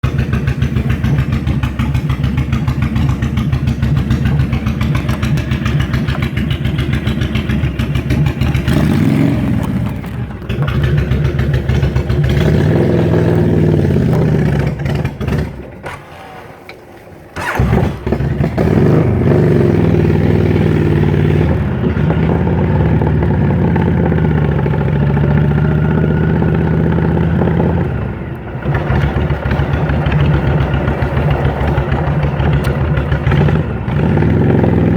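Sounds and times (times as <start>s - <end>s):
vehicle engine revving: 0.0s - 16.6s, 17.4s - 34.9s.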